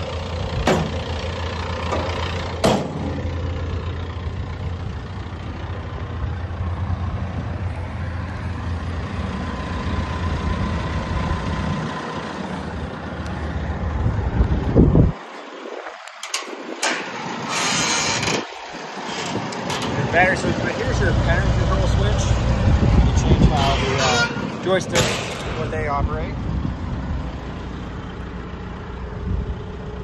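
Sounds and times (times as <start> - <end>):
diesel engine idling: 0.0 - 15.9, 16.5 - 30.0.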